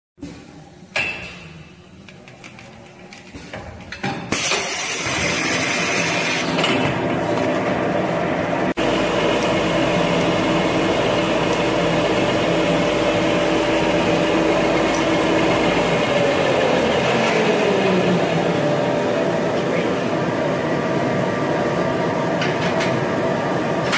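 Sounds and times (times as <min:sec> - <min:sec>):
machine whirring and rattling: 0:02.2 - 0:23.9.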